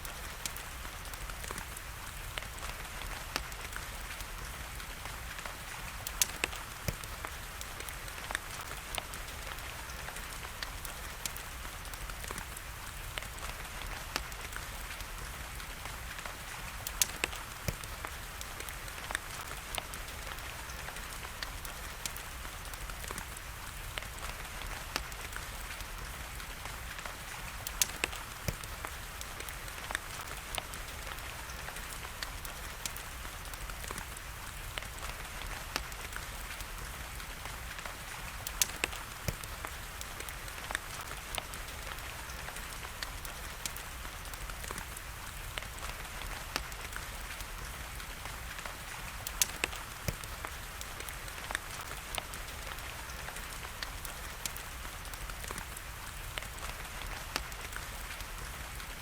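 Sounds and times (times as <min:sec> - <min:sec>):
wood fire popping and crackling: 0:00.0 - 0:59.0.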